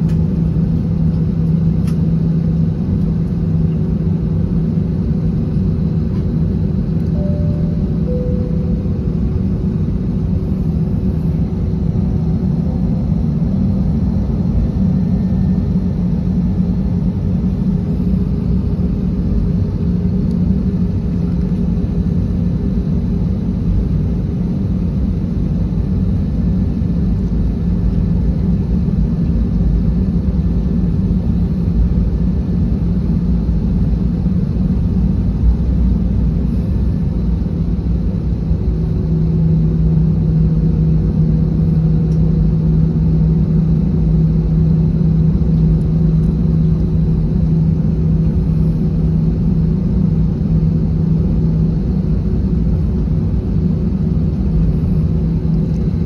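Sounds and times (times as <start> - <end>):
jet engines rumbling: 0.0 - 56.0
steady hum: 0.0 - 56.0.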